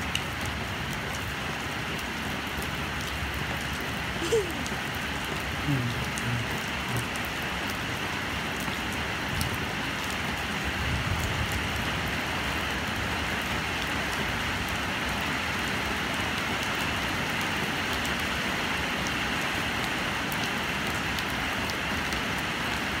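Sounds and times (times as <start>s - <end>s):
raindrops ticking: 0.0s - 22.9s
steady rain falling: 0.0s - 23.0s.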